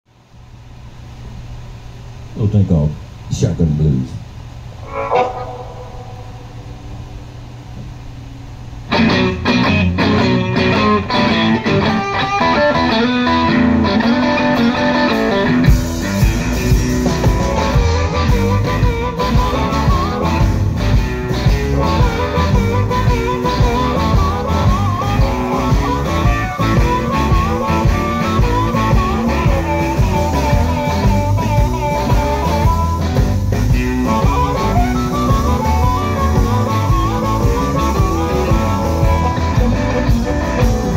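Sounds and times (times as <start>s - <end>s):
stage hum: 0.1s - 40.9s
blues band with drums and bass: 4.7s - 40.9s
electric guitar: 4.7s - 40.9s
amplified harmonica wailing: 4.8s - 7.4s, 10.6s - 40.9s.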